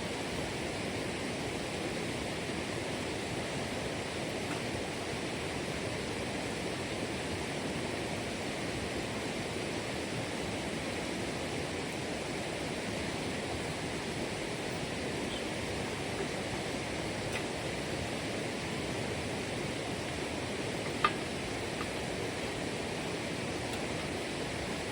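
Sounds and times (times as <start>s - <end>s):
running water rushing: 0.1s - 24.9s.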